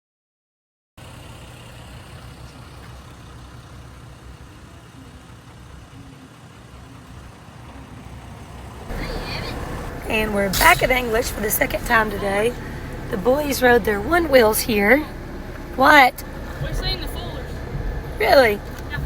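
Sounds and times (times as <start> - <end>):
road noise: 1.0 - 19.0
vehicle engine running: 1.0 - 19.0.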